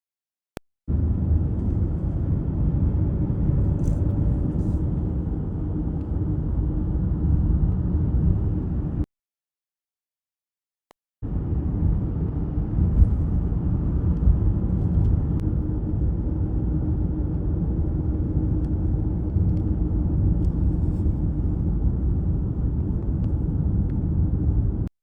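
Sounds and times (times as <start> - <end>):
car road rumble: 0.9 - 9.0, 11.2 - 24.9.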